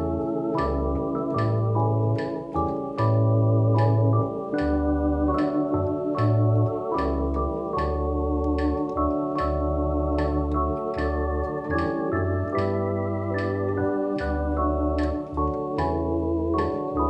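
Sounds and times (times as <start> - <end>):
electronic organ playing a hymn: 0.0 - 17.0.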